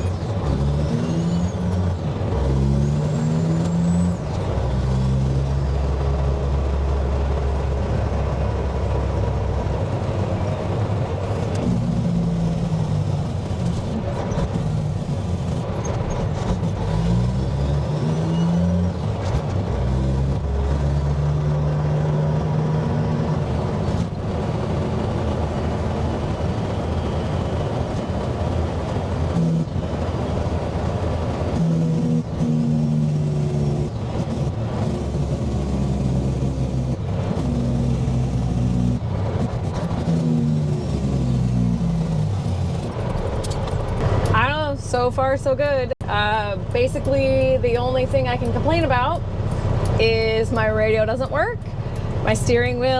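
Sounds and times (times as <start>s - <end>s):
diesel truck engine shifting gears: 0.0s - 52.9s.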